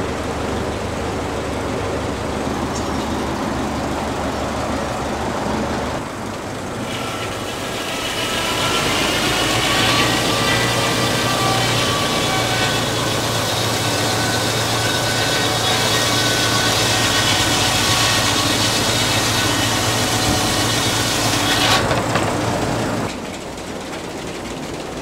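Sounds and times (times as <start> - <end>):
low machine hum: 0.0 - 25.0
circular saw blade cutting log: 2.1 - 24.3.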